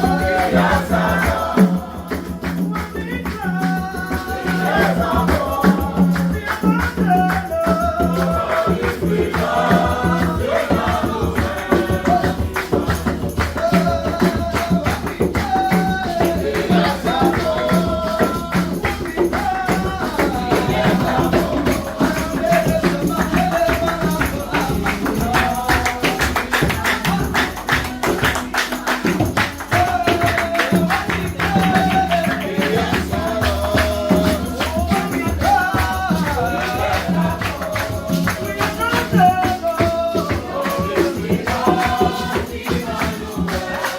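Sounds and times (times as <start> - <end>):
gospel worship music: 0.0 - 43.9
tambourine and shaker rhythm: 0.0 - 43.9.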